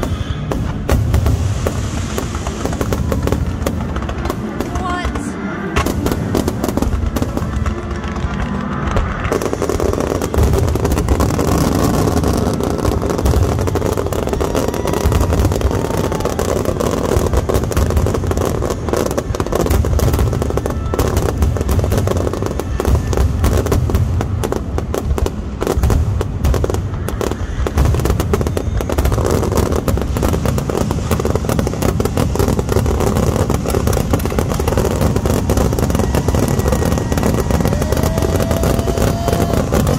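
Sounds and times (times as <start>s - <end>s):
fireworks booming and crackling: 0.0s - 39.9s.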